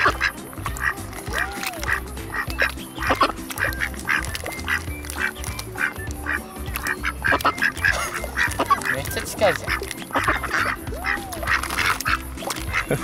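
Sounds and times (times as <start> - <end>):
background music with bass line: 0.0 - 13.0
ducks quacking: 0.0 - 13.0.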